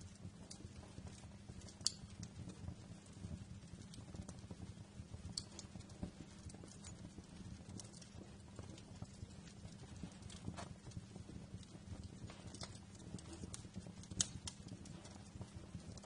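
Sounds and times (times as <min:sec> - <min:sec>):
fire pops and snaps: 0:00.0 - 0:16.0
low rumble of flames: 0:00.0 - 0:16.0.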